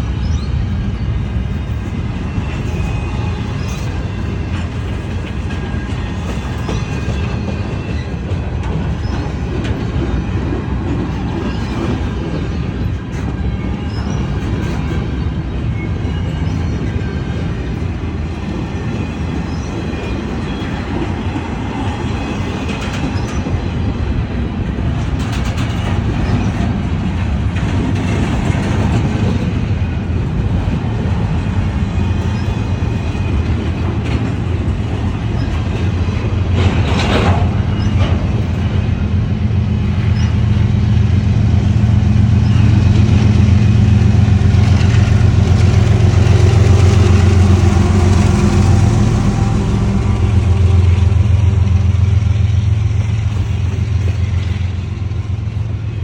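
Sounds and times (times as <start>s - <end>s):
freight train cars rolling: 0.0s - 56.0s
train wheel squeal: 0.0s - 56.0s.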